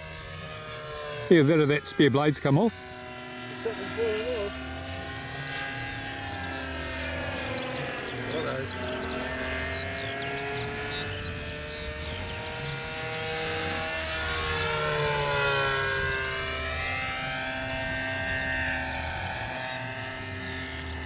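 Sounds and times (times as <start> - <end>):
model plane buzzing drone: 0.0 - 21.0.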